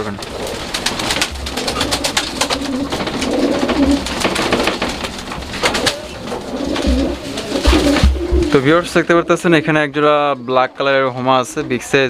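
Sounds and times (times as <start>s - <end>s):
pigeons cooing: 0.0s - 10.6s.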